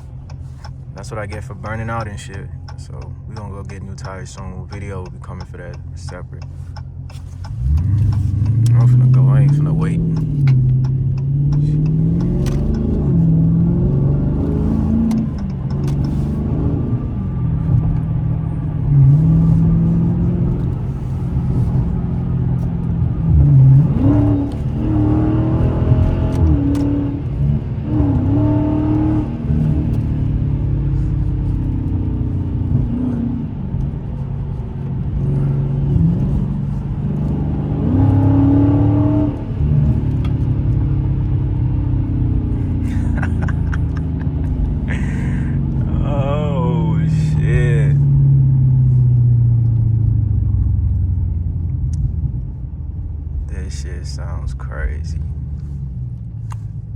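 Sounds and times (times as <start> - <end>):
car engine revving under acceleration: 0.0 - 56.9.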